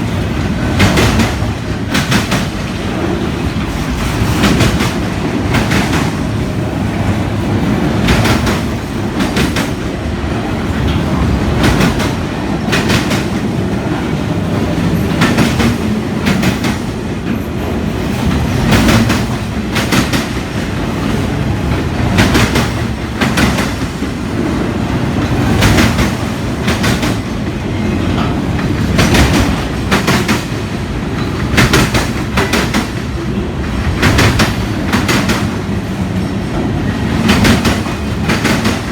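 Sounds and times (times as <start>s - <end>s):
freight train rumbling past: 0.0s - 38.9s
wheels clicking over rail joints: 0.4s - 38.9s.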